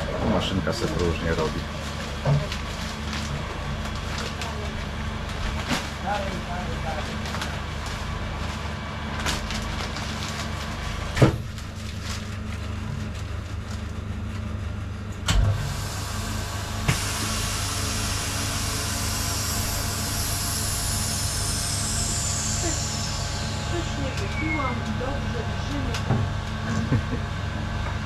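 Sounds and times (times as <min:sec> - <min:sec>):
vacuum pump humming: 0:00.0 - 0:28.0.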